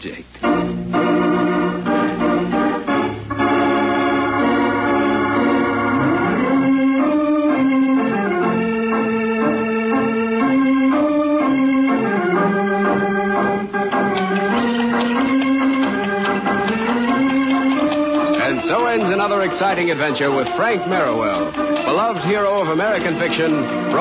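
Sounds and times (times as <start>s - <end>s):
organ playing slow melody: 0.3s - 24.0s.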